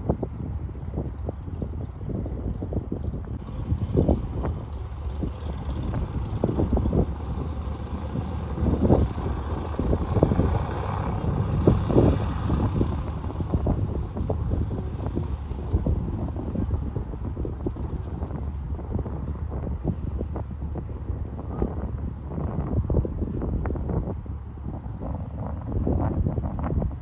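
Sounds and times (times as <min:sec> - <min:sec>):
propeller plane engine: 0:00.0 - 0:27.0
wind buffeting microphone: 0:00.0 - 0:27.0.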